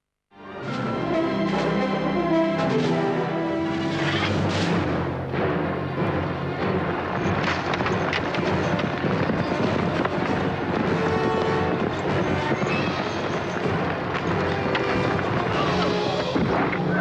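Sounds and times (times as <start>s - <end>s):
trailer music: 0.3s - 17.0s.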